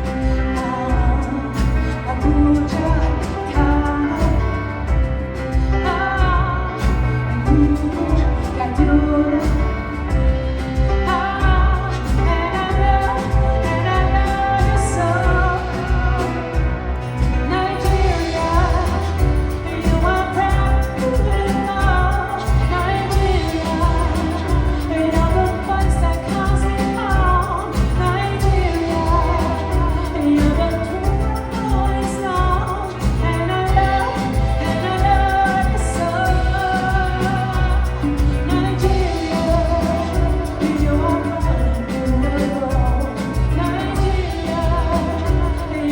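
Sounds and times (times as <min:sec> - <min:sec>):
accompaniment with beat and bass: 0:00.0 - 0:45.9
woman singing: 0:00.0 - 0:45.9.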